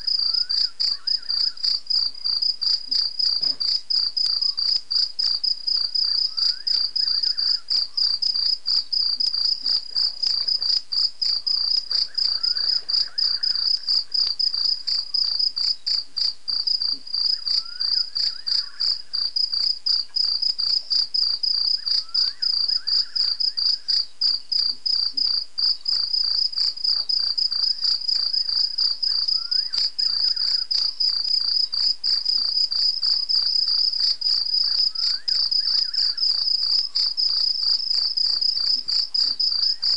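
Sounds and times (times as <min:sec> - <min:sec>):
crickets trilling: 0:00.0 - 0:39.9
faint lower insect call: 0:00.0 - 0:39.9.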